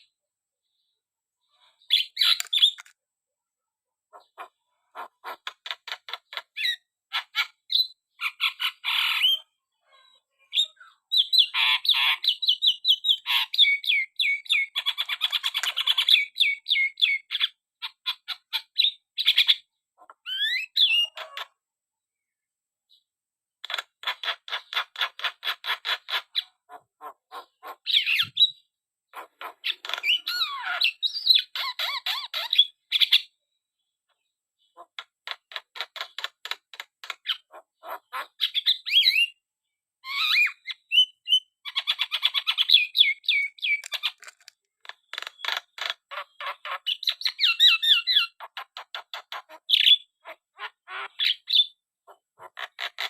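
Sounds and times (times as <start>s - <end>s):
myna bird chattering: 1.6s - 2.9s, 4.1s - 9.5s, 10.5s - 21.6s, 23.6s - 33.4s, 34.6s - 39.4s, 40.0s - 53.0s.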